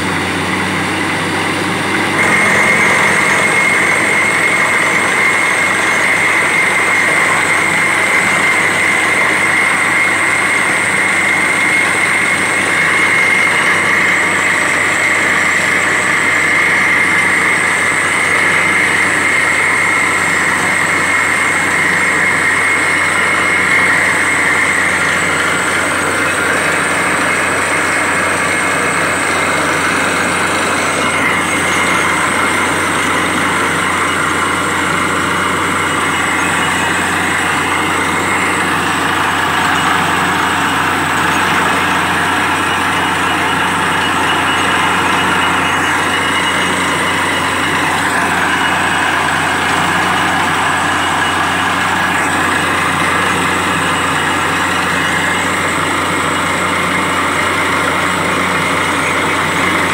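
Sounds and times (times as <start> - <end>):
drilling rig running: 0.0 - 59.9.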